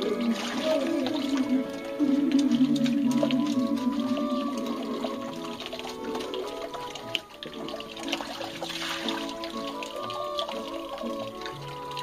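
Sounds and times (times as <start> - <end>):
water splashing in a sink: 0.0 - 12.0.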